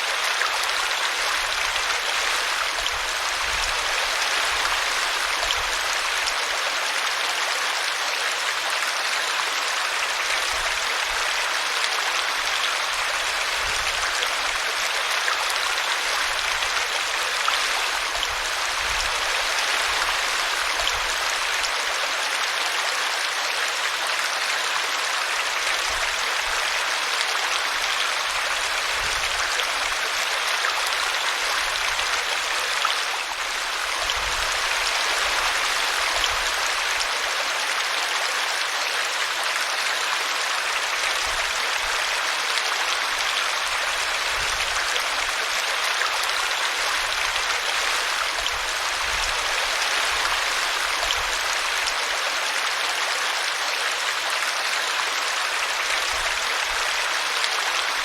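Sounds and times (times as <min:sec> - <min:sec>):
brook babbling: 0:00.0 - 0:58.0.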